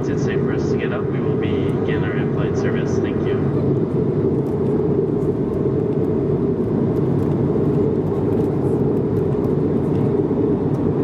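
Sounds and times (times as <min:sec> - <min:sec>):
airplane cabin airflow and engine drone: 0:00.0 - 0:11.0.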